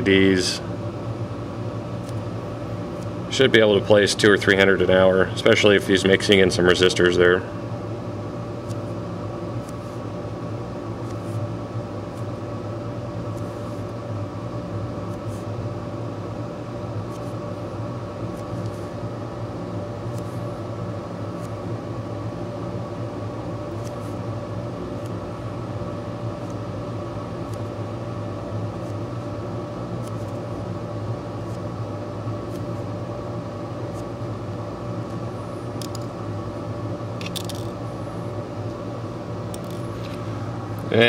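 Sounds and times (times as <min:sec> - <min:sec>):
machine hum: 0:00.0 - 0:41.0.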